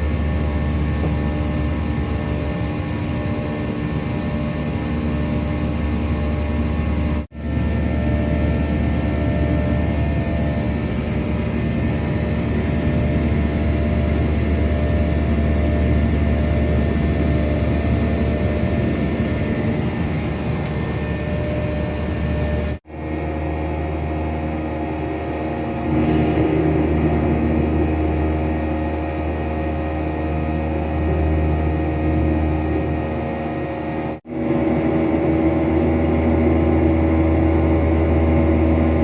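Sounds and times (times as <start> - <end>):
airplane engine hum: 0.0 - 39.0.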